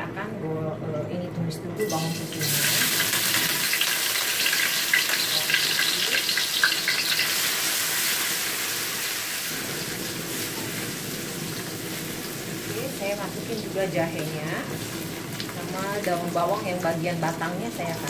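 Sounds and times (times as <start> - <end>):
garlic sizzling in hot oil: 1.8 - 18.0.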